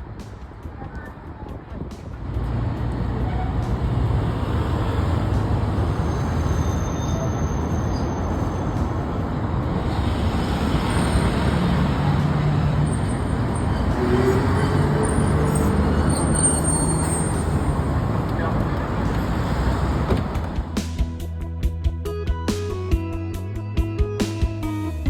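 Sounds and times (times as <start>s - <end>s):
moving vehicle rumbling: 0.0s - 21.2s.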